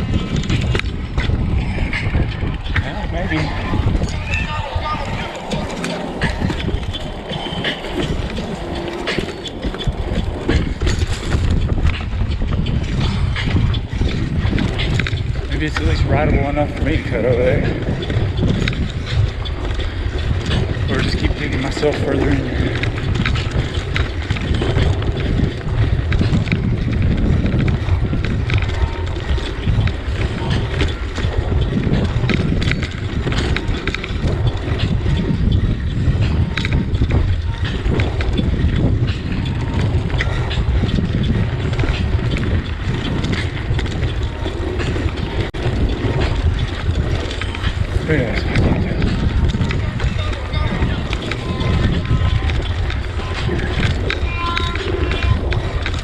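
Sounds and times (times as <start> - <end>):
bicycle tyres rumbling: 0.0 - 56.0
bike knocking and rattling: 0.0 - 56.0
wind buffeting microphone: 0.0 - 56.0.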